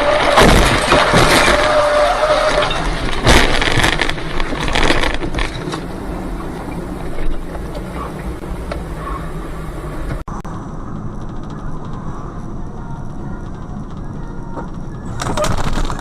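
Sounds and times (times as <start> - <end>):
vehicle road noise rushing: 0.0 - 16.0.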